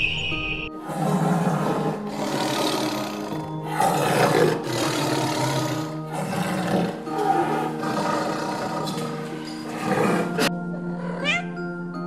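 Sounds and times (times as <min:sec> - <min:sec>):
background music: 0:00.0 - 0:12.0
lion roaring: 0:00.8 - 0:11.4.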